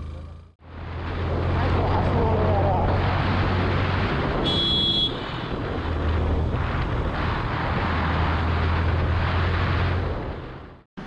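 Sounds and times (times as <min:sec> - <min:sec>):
wind rushing over microphone: 0:00.8 - 0:10.9.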